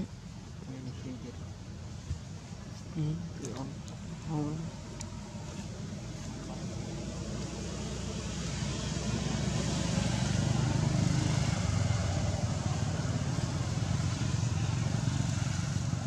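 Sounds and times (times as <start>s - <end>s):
vehicle engine running: 1.5s - 16.0s.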